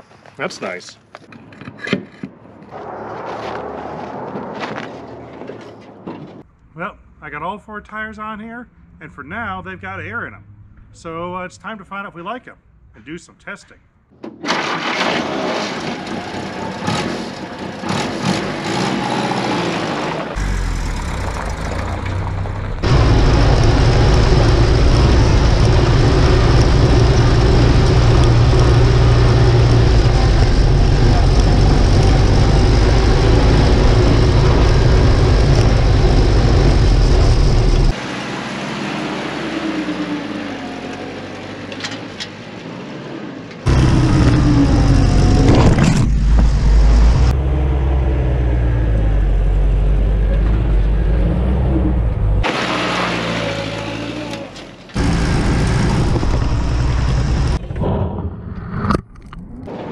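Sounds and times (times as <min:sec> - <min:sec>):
vehicle engine and tyre rumble: 0:00.0 - 0:11.5, 0:14.9 - 0:59.9.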